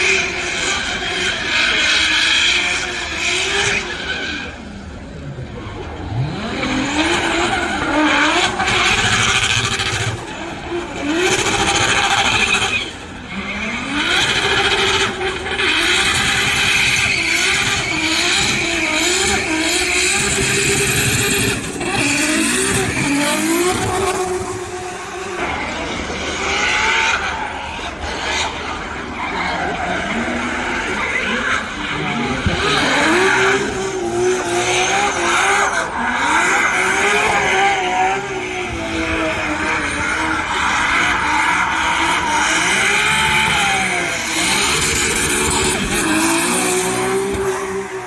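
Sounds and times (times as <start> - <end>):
car engines revving: 0.0 - 48.0.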